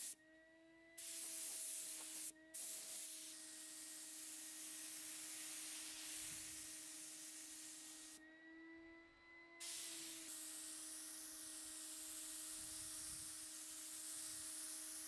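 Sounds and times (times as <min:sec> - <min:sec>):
spray gun hissing: 0:01.0 - 0:08.2, 0:09.6 - 0:15.0.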